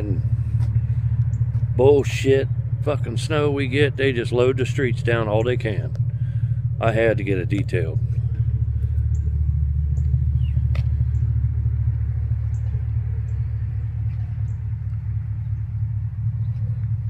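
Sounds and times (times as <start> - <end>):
engine idling low rumble: 0.0 - 17.0.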